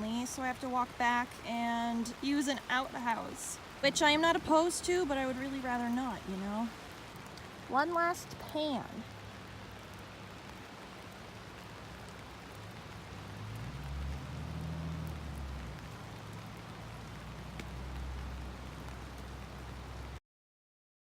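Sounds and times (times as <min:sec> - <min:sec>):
steady rain falling: 0:00.0 - 0:20.2.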